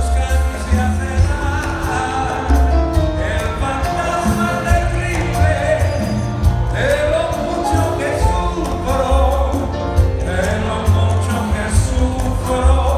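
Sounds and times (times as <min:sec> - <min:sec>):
live latin band music: 0:00.0 - 0:12.9
rhythmic bass line: 0:00.0 - 0:12.9.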